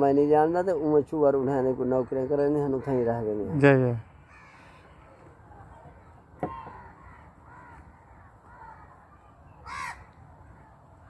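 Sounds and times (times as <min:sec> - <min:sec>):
faint bird calls: 0:02.0 - 0:11.0.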